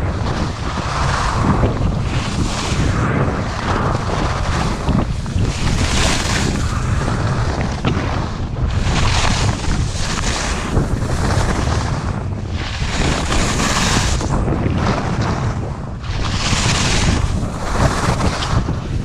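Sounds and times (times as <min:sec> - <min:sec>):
skis scraping across snow: 0:00.0 - 0:19.0
wind buffeting microphone: 0:00.0 - 0:19.0.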